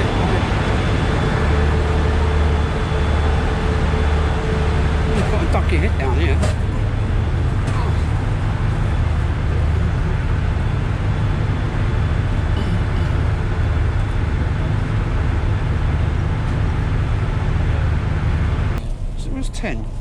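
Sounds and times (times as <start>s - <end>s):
train rumble and hiss: 0.0s - 20.0s.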